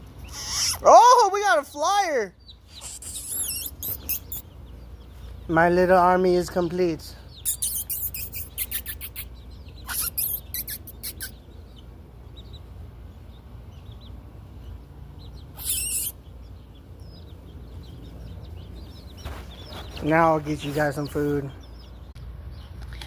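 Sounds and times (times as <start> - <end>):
chickens chirping: 0.0 - 23.0.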